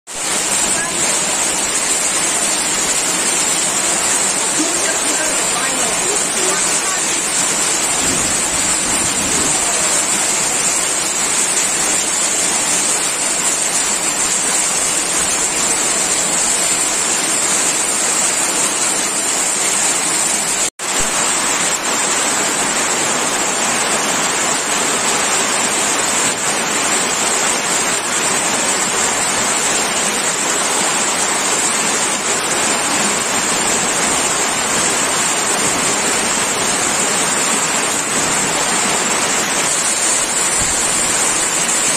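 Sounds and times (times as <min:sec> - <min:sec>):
heavy rain with hail: 0:00.1 - 0:41.9.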